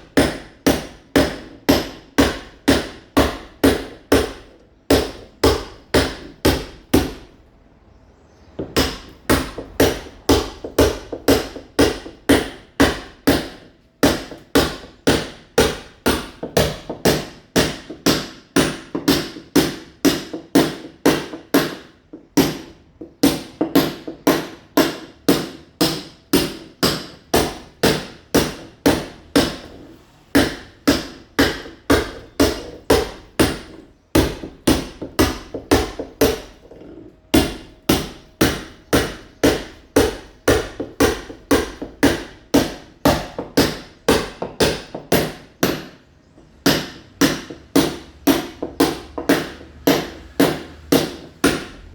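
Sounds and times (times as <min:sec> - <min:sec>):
hammer chipping masonry wall: 0:00.0 - 0:07.5, 0:08.4 - 0:51.9.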